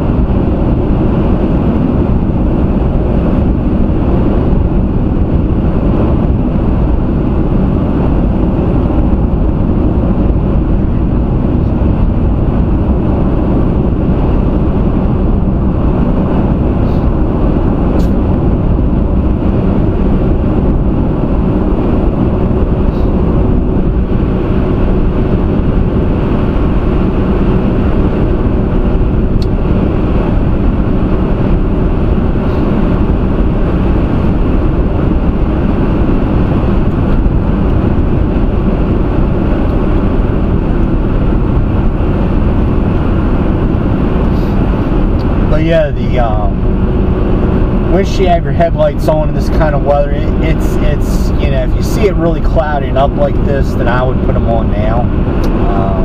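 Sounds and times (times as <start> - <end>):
car engine hum: 0.0 - 56.0
road and tyre noise: 0.0 - 56.0.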